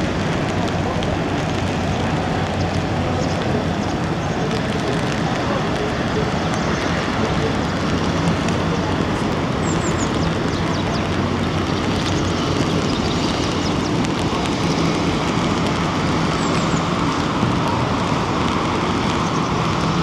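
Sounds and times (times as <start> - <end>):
rain: 0.0 - 20.0
wind: 0.0 - 20.0.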